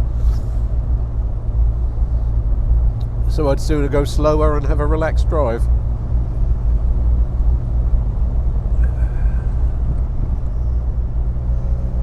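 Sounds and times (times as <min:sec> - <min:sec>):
car engine running at low speed: 0:00.0 - 0:12.0
road noise: 0:00.0 - 0:12.0.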